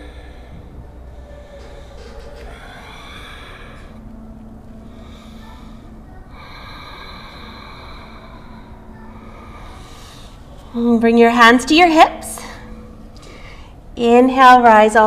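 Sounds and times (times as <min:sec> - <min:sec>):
woman breathing deeply: 0:00.0 - 0:10.8, 0:12.4 - 0:14.0
low steady hum: 0:00.0 - 0:15.0.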